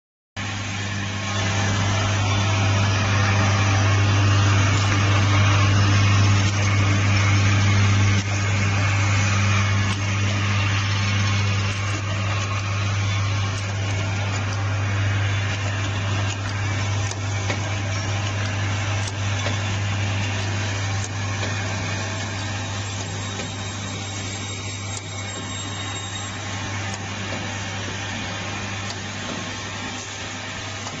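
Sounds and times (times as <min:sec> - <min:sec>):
continuous mechanical noise: 0:00.4 - 0:31.0
machine humming: 0:00.4 - 0:31.0.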